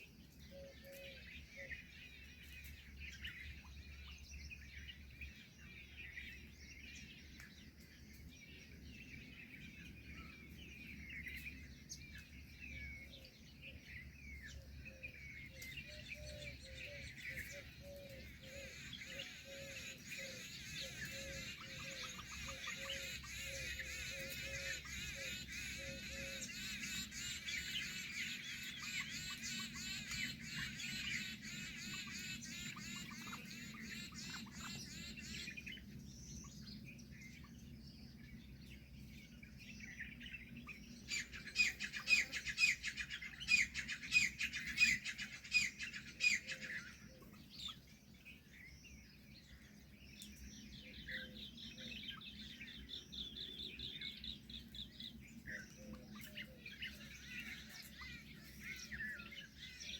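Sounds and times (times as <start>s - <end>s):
small birds chirping and twittering: 0.0s - 59.9s.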